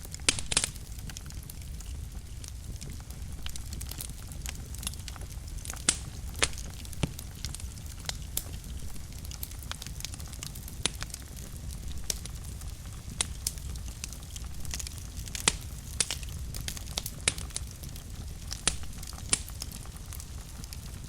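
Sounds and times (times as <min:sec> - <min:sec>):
fire popping: 0:00.0 - 0:21.0
flames rumbling: 0:00.0 - 0:21.0.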